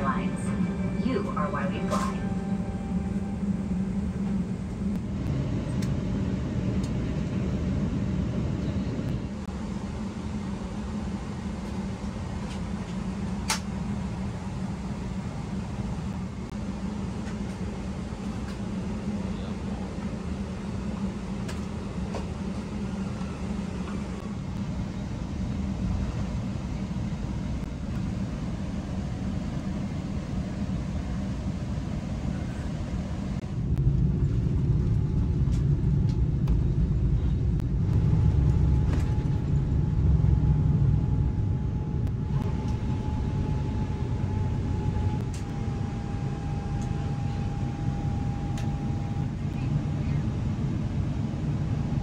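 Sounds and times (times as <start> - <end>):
thin steady whine: 0.0 - 34.2, 36.8 - 52.0
jet engine cabin rumble: 0.0 - 52.0.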